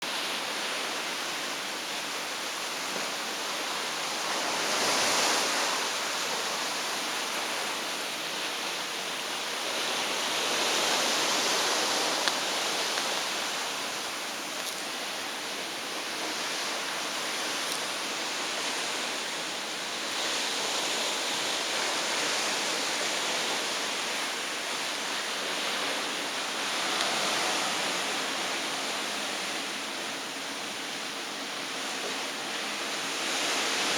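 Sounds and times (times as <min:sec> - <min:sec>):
sea water churning in ship wake: 0:00.0 - 0:33.9.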